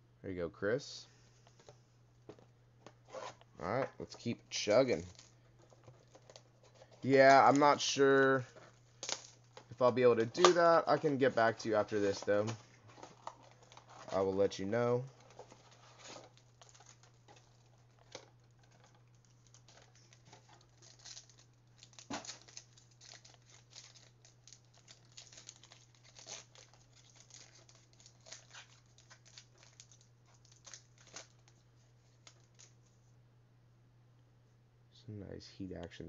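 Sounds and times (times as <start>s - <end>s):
steady low hum: 0.0s - 36.0s
card wrappers crinkling: 4.0s - 32.9s.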